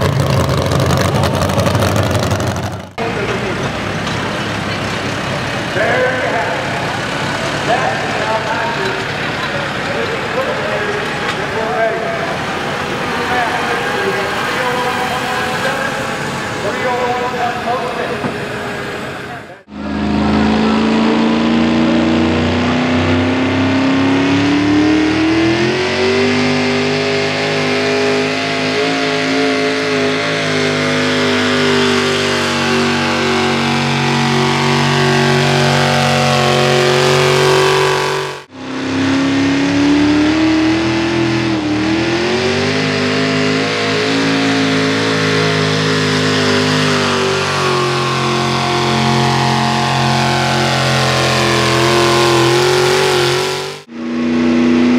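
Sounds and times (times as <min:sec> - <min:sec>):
engine revving at full throttle: 0:00.0 - 0:54.9.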